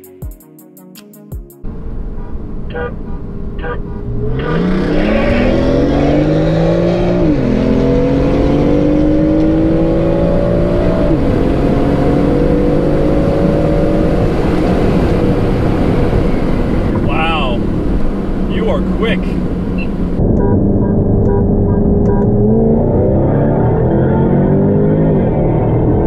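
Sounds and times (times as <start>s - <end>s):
road and wind noise: 1.6s - 26.0s
sports car engine at full throttle: 1.7s - 26.0s.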